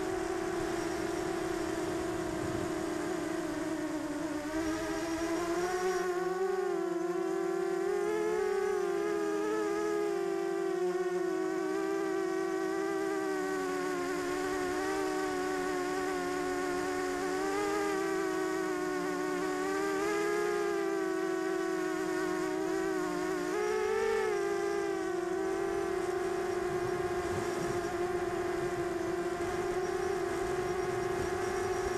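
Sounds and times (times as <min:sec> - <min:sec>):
quadcopter motors buzzing: 0:00.0 - 0:31.9.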